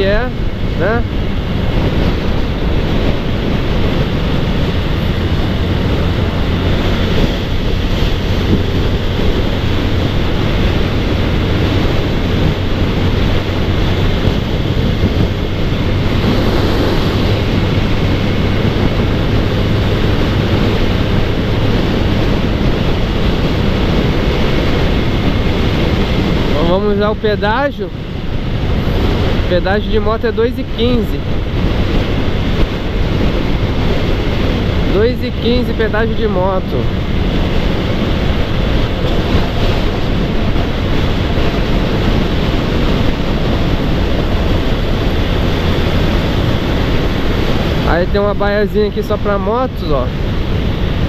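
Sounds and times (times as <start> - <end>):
motorcycle engine low hum: 0.0 - 26.6, 31.2 - 47.9
wind rushing over microphone: 0.0 - 51.0.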